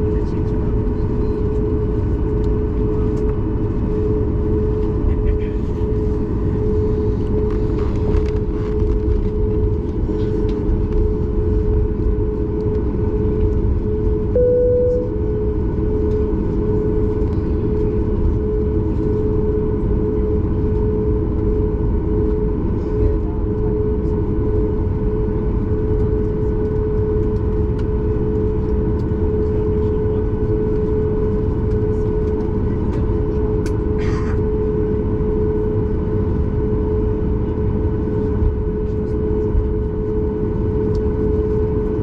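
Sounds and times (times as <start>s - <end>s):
airplane cabin engine drone: 0.0s - 42.0s.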